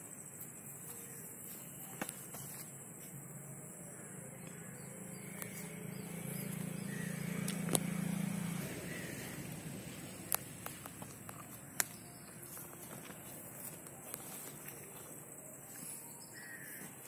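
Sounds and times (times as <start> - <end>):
distant vehicle engine drone: 3.1 - 17.0.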